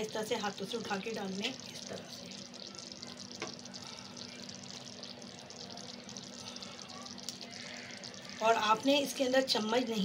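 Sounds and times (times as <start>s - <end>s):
gravy bubbling in a pan: 0.0s - 10.0s.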